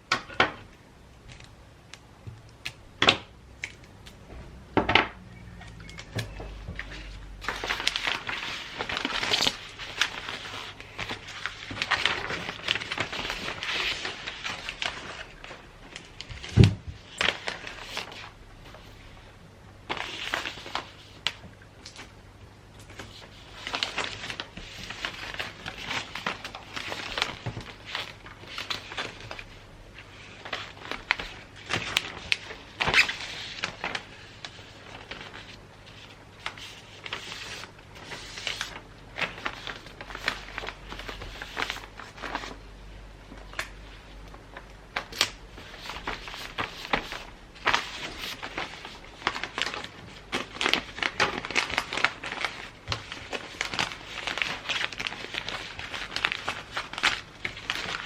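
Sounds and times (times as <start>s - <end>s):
wrapping paper rustling: 5.4s - 19.1s, 19.8s - 22.2s, 22.8s - 58.0s.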